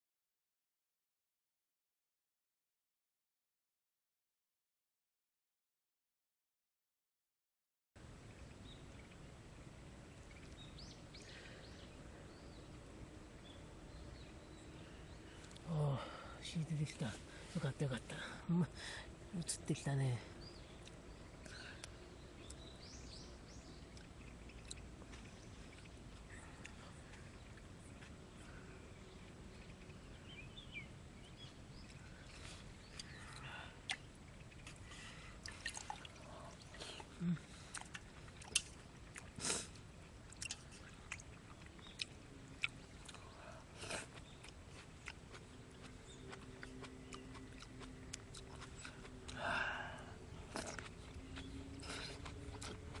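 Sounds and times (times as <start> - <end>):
faint steady drone: 8.0 - 53.0.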